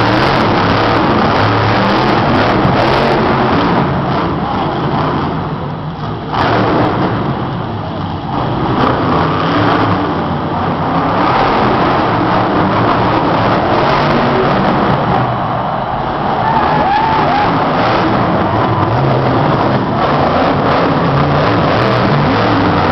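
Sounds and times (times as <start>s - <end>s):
truck engine revving: 0.0s - 22.9s.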